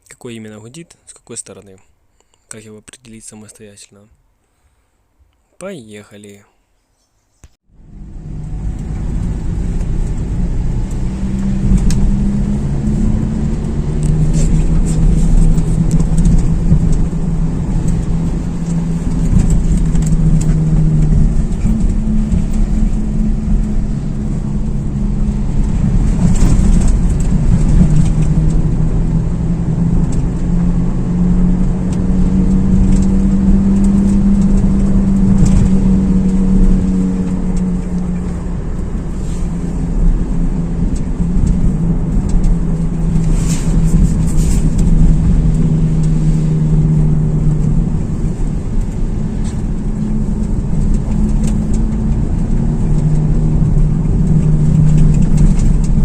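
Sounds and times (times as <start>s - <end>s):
tyre and road noise: 7.7s - 56.0s
wheel bearing drone: 7.7s - 56.0s.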